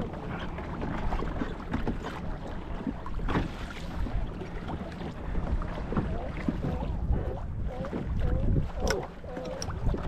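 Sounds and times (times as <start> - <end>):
water sloshing against kayak hull: 0.0 - 10.0
wind buffeting microphone: 0.0 - 10.0.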